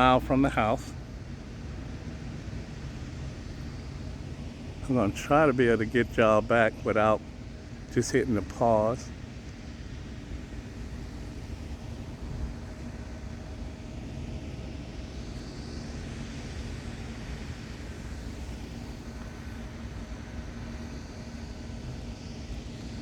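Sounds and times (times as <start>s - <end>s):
faint constant hum: 0.0s - 23.0s
low mechanical rumble: 0.0s - 23.0s.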